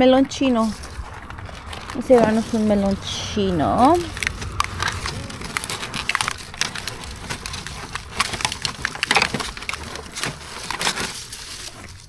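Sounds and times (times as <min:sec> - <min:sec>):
plastic pot crackling: 0:00.0 - 0:12.0.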